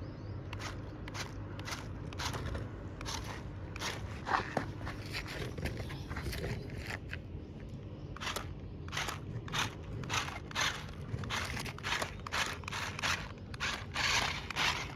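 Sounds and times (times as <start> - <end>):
crunching strokes: 0.5 - 7.2, 8.2 - 14.9.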